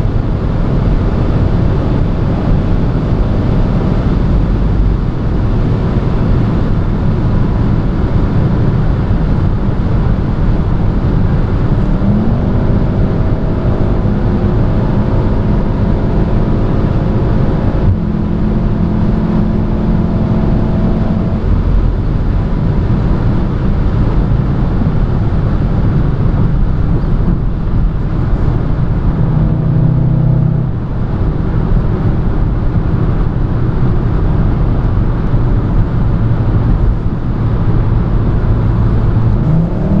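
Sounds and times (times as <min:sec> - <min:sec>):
car engine accelerating: 0:00.0 - 0:40.0
wind and tyre roar: 0:00.0 - 0:40.0.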